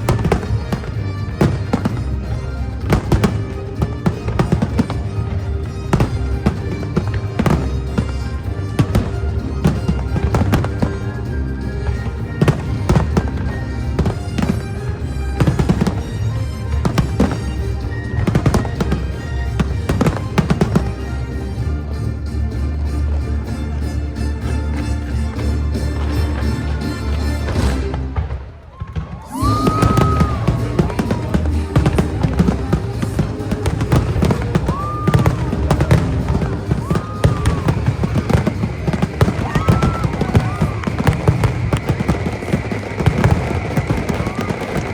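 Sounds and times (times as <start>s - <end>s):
loud music: 0.0s - 28.2s, 29.4s - 44.9s
fireworks bangs and crackles: 0.0s - 44.9s.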